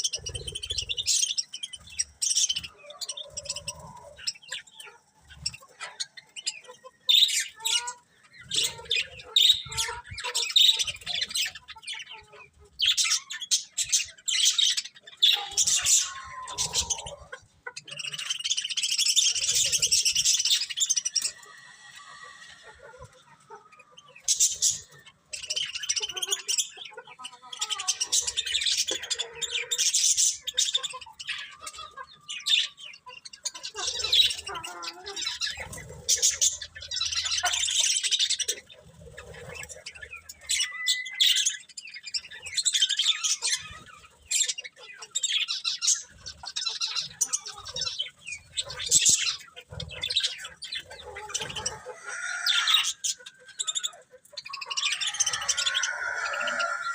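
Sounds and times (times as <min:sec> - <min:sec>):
budgerigars chirping and warbling: 0:00.0 - 0:56.9.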